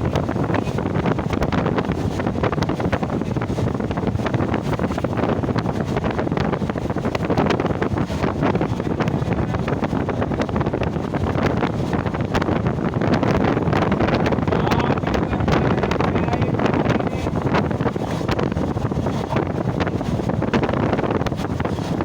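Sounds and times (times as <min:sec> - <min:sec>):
train rushing and rumbling: 0:00.0 - 0:22.0
wind buffeting microphone: 0:00.0 - 0:22.0.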